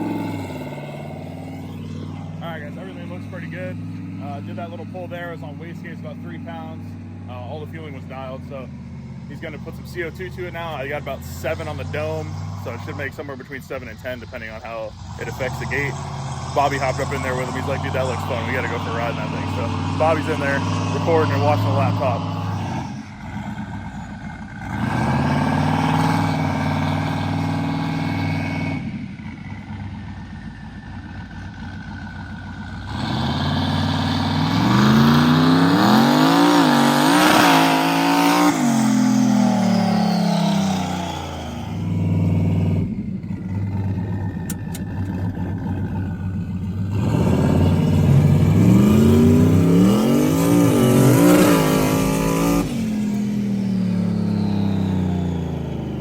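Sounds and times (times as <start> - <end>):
turbocharged truck engine revving: 0.0 - 56.0.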